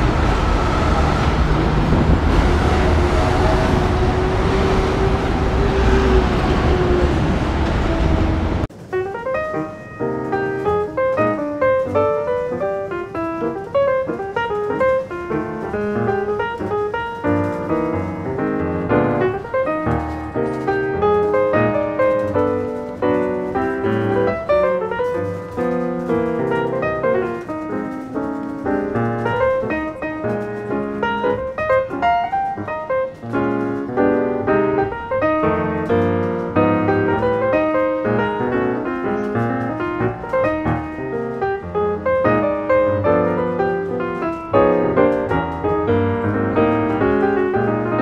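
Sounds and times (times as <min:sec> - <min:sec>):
lively piano music: 0:00.0 - 0:48.0.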